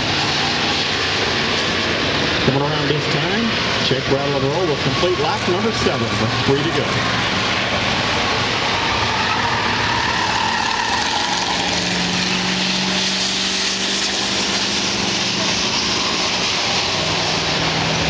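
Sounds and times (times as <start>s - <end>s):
car passing by: 0.0s - 18.0s
race car engines: 0.0s - 18.0s.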